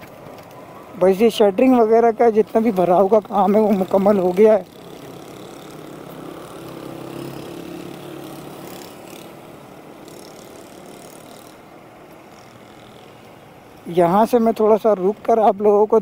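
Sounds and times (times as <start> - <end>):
vehicle engine hum: 0.0 - 15.4
road noise: 0.0 - 16.0.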